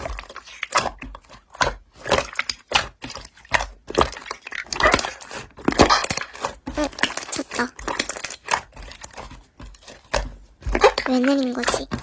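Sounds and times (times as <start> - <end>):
slime crackling and popping: 0.0 - 12.0.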